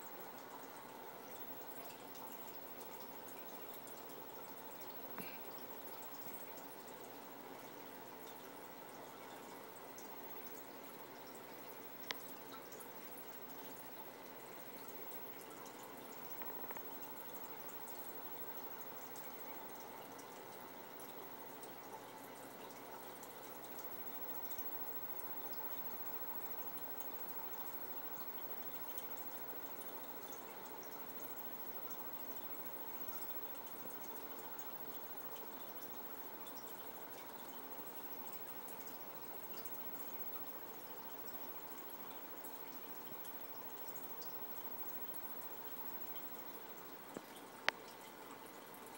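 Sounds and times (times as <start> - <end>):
aquarium water trickling: 0.0 - 48.9.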